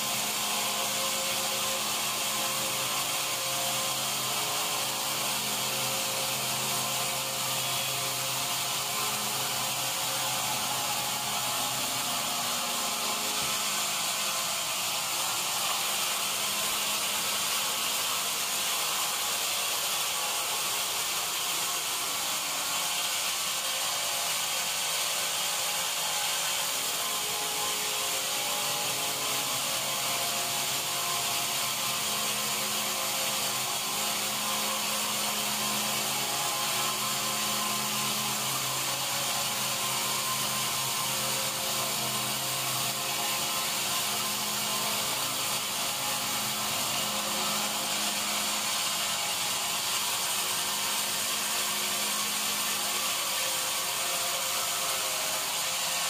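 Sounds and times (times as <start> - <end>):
band saw blade sawing log: 0.0 - 56.0.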